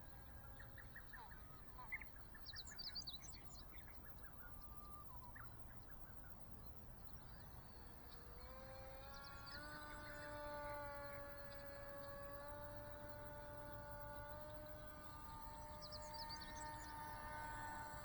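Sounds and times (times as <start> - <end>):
model plane motor whine: 0.0 - 18.0
small birds chirping: 0.0 - 18.0.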